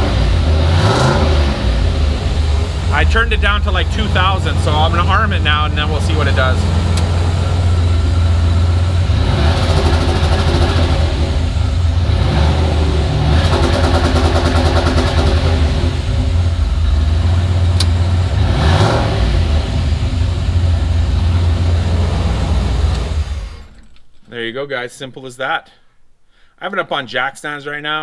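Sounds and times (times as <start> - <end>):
engine revving in bursts: 0.0 - 23.8
engine idling: 0.0 - 24.0
ignition cut stutter: 0.0 - 24.1.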